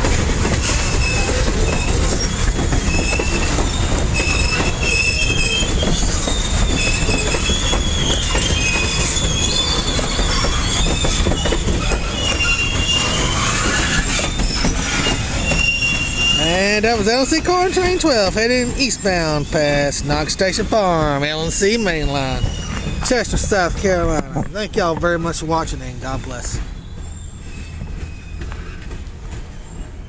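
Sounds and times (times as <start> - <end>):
freight train wheels rumbling: 0.0 - 30.0
high wheel squeals: 0.0 - 30.0.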